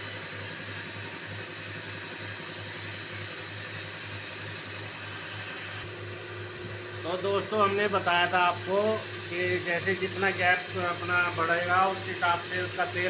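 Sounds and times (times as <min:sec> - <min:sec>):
test bench mechanical hum: 0:00.0 - 0:13.0.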